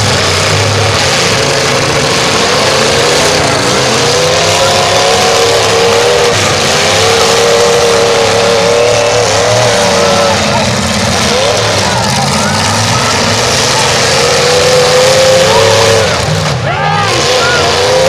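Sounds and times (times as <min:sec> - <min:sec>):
car engines revving hard: 0:00.0 - 0:18.0
high engine note at full throttle: 0:00.0 - 0:18.0.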